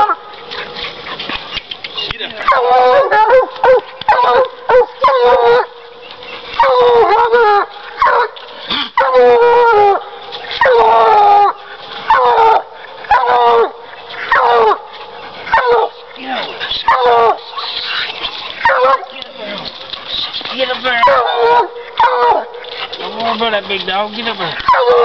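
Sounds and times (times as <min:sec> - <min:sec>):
hound baying: 0:00.0 - 0:25.0.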